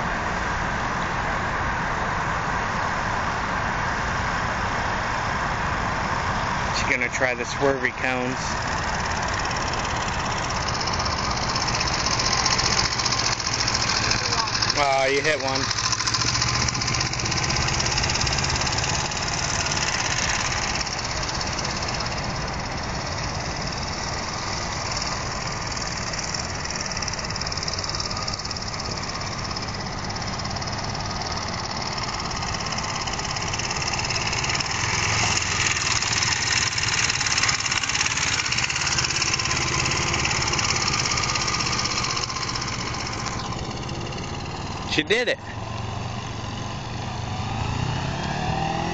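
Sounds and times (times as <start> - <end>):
motorcycle engine running: 5.9 - 48.9.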